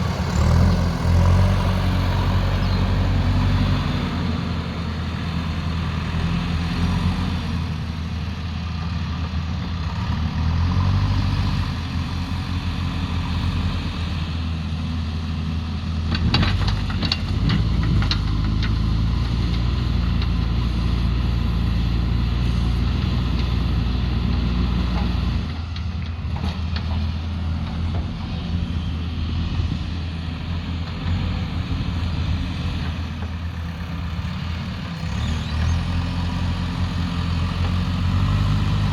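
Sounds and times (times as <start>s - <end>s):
diesel engine of heavy machinery: 0.0s - 38.9s.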